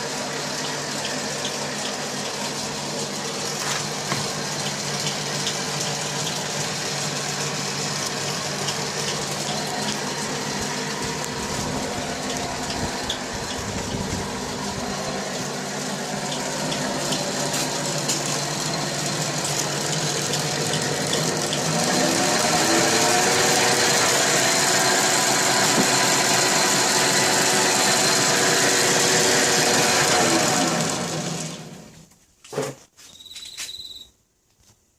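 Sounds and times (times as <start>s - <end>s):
lathe motor humming and whining: 0.0s - 31.9s.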